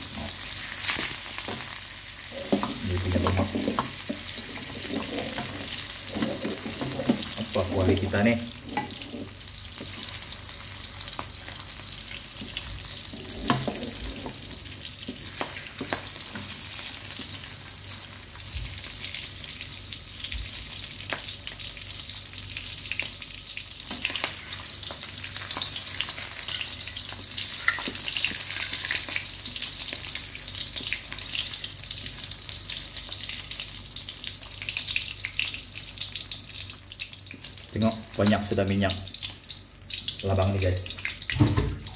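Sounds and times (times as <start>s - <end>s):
fish fat sizzling in a wok: 0.0s - 41.9s.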